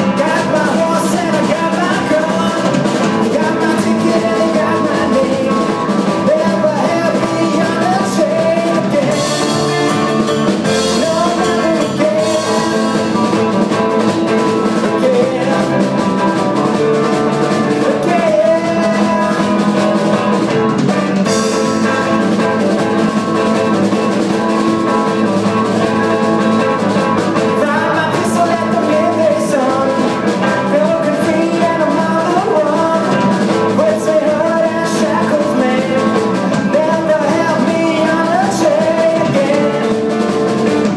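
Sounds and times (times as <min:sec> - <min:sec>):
live rock band: 0:00.0 - 0:40.9
person singing lead vocal: 0:00.0 - 0:40.9.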